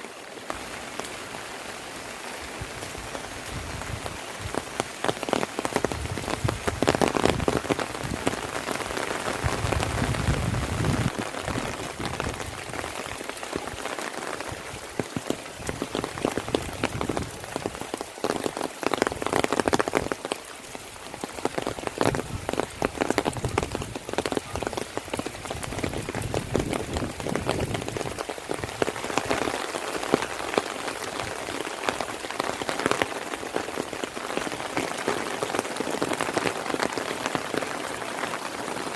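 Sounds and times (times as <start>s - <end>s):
heavy rain falling: 0.0s - 38.9s
close raindrop impacts: 0.2s - 38.9s.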